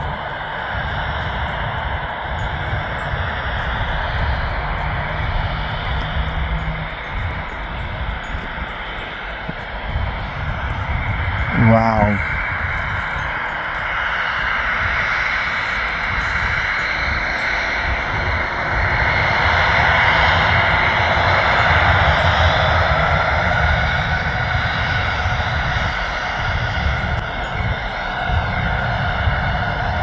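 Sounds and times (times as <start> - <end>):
jet engines at low power: 0.0 - 30.0.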